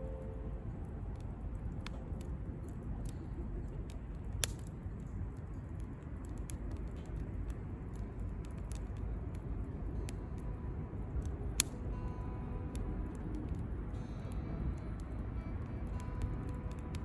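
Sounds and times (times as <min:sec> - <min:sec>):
campfire crackling and popping: 0:00.0 - 0:17.0
low rumble of city traffic: 0:00.0 - 0:17.0.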